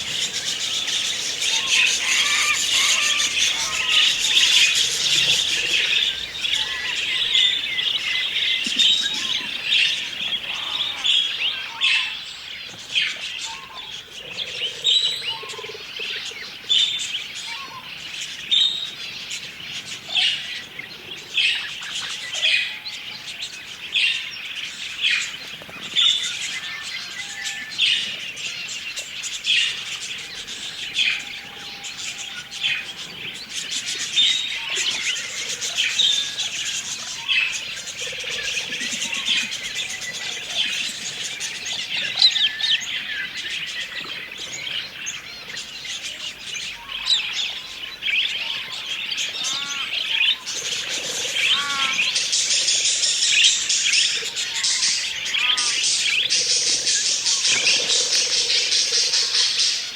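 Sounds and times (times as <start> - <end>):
budgerigars chattering: 0.0 - 12.3, 13.0 - 59.9.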